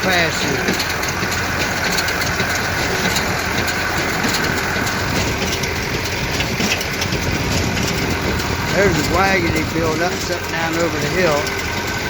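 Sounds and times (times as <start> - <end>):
light rattling clicks: 0.0 - 12.0
vehicle engine running: 0.0 - 12.0.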